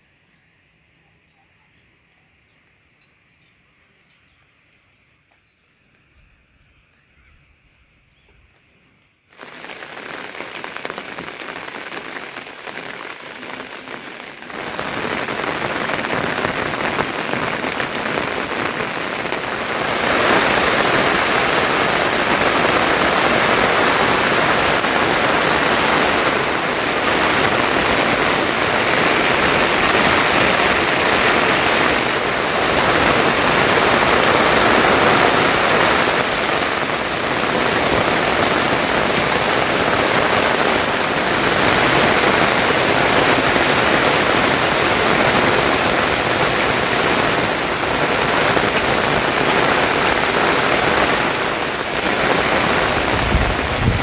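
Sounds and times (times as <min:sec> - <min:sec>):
heavy rain falling: 0:09.4 - 0:54.0.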